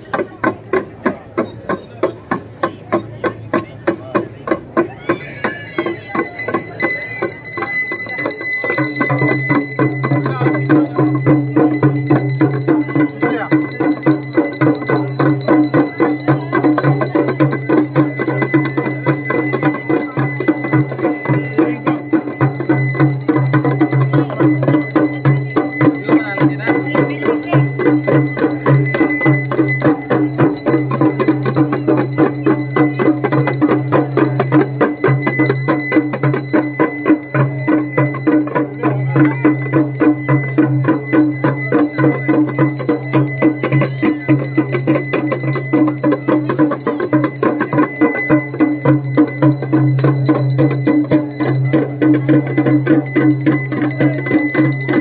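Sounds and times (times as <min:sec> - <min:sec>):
bells and percussion beat: 0:00.0 - 0:55.0.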